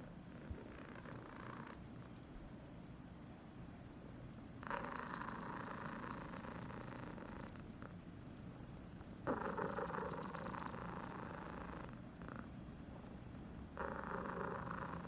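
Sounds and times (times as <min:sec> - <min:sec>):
cat purring: 0:00.0 - 0:02.1, 0:04.6 - 0:15.0.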